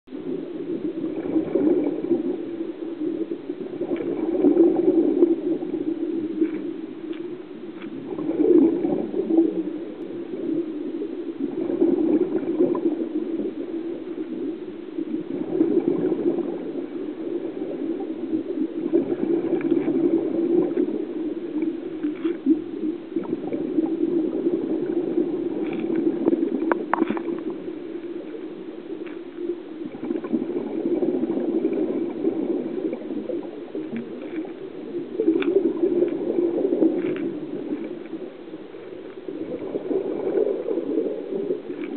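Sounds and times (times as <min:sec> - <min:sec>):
underwater rushing gurgle: 0:00.1 - 0:41.9.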